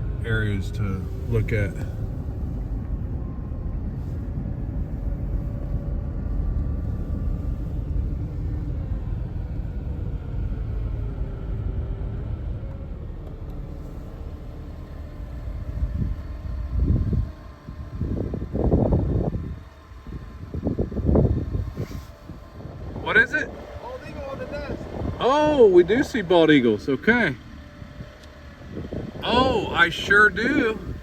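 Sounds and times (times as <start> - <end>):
car engine and tyre rumble: 0.0 - 31.0
faint drifting engine tone: 0.0 - 31.0.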